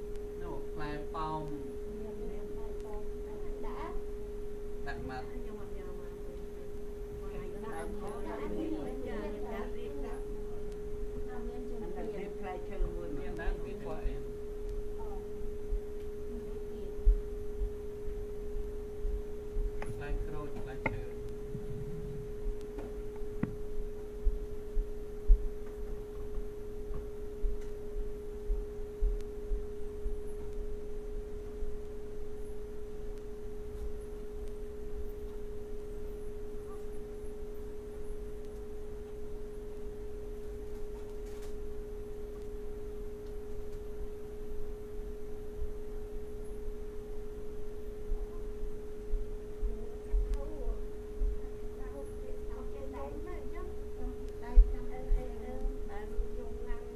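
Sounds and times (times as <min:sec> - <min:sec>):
faint low tones: 0:00.0 - 0:56.9
steady hum: 0:00.0 - 0:56.9.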